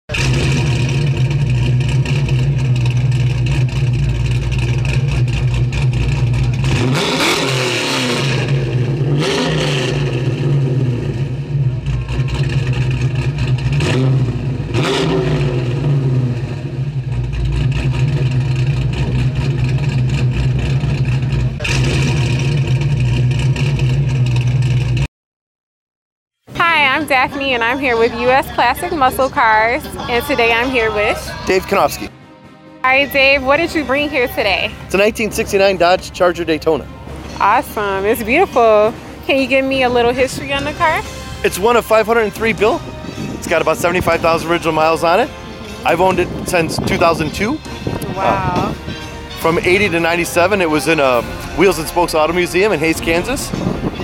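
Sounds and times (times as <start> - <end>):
car engine idling and revving: 0.1 - 25.1, 26.5 - 54.0.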